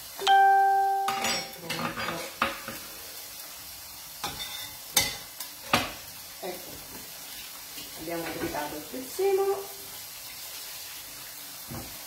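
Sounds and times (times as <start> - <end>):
fish sizzling in a covered pan: 0.0 - 12.0.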